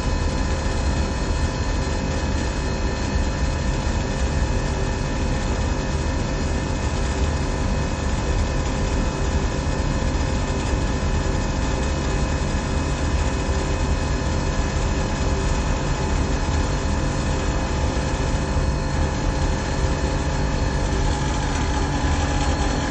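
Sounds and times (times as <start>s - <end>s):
hvac equipment whirring and humming: 0.0s - 22.9s.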